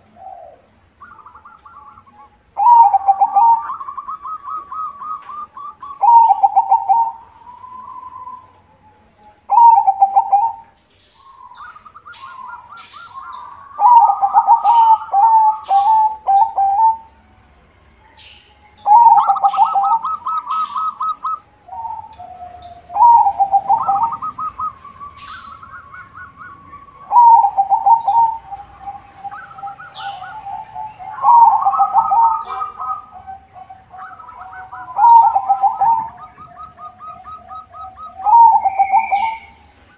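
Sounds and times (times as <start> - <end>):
dove cooing: 0.0 - 17.2, 18.8 - 39.9.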